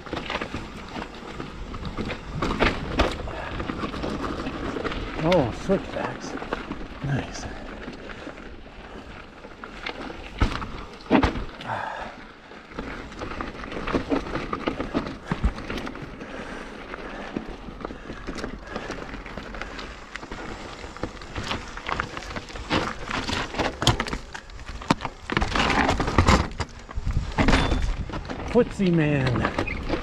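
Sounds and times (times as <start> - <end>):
bike rattling over bumps: 0.0 - 30.0
bike tyres crunching over rock: 0.0 - 30.0.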